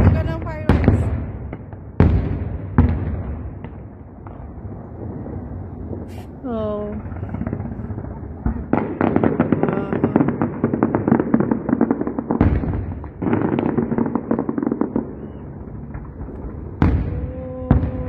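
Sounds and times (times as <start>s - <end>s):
firework booms: 0.0s - 18.0s
fireworks crackling: 0.0s - 18.0s.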